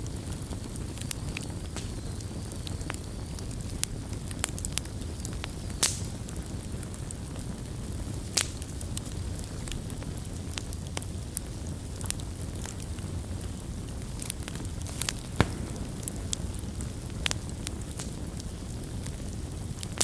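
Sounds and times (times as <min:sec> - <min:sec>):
burning logs popping: 0:00.0 - 0:20.0
fire rumbling and crackling: 0:00.0 - 0:20.0.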